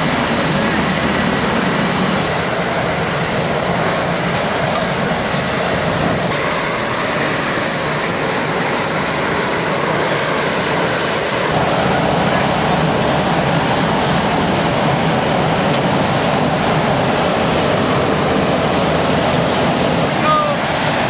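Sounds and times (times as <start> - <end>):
high engine whine: 0.0 - 21.0
jet engines roaring: 0.0 - 21.0.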